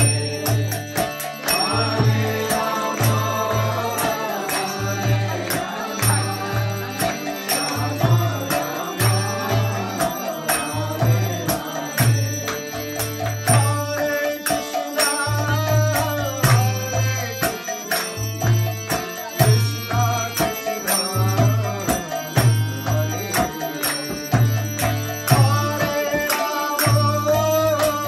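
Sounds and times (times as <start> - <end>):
hand clapping: 0.0 - 19.6, 21.9 - 28.0
group singing a mantra: 0.0 - 28.0
harmonium chords: 0.0 - 28.0.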